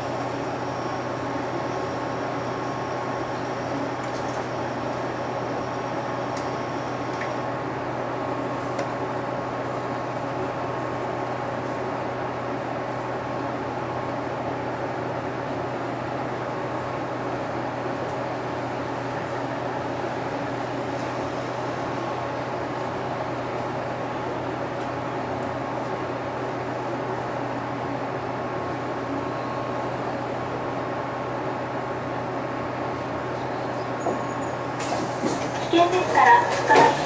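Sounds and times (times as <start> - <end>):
bus interior engine drone: 0.0 - 37.0.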